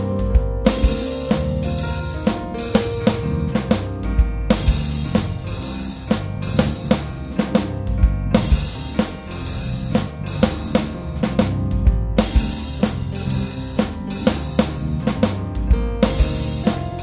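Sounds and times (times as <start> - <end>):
deep bass thump: 0.0 - 17.0
kick drum and snare beat: 0.0 - 17.0.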